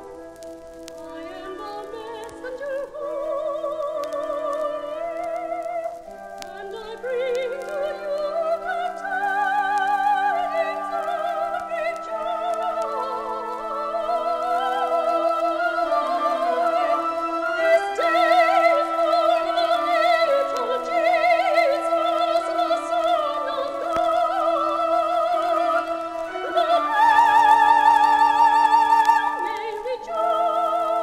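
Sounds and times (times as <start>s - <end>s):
vinyl clicks: 0.0s - 30.8s
high voice singing with vibrato: 0.9s - 31.0s.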